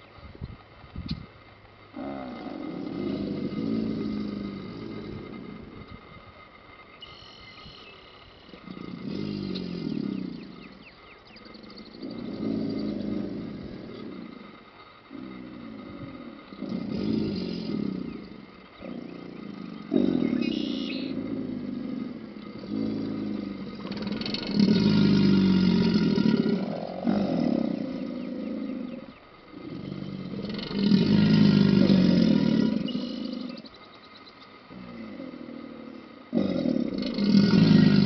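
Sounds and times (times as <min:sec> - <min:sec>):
alligators bellowing: 0:01.8 - 0:38.0.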